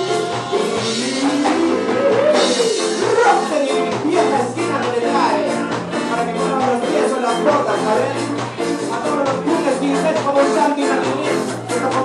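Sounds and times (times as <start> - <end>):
live band with singing: 0.0 - 12.0.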